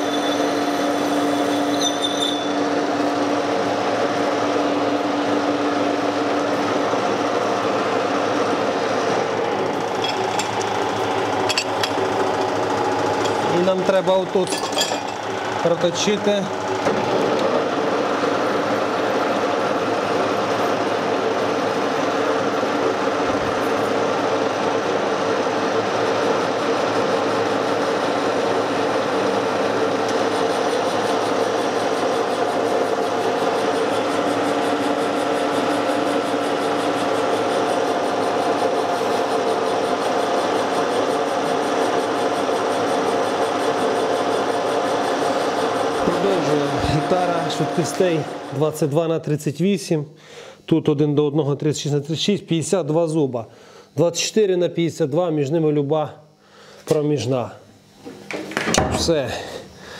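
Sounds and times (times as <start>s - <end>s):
metal lathe humming: 0.0s - 49.0s.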